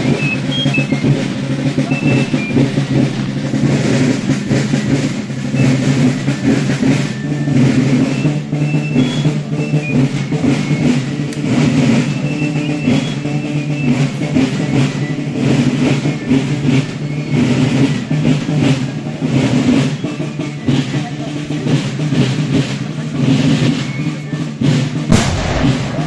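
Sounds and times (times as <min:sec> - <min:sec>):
drums beating march rhythm: 0:00.0 - 0:26.0
marching band music: 0:00.0 - 0:26.0.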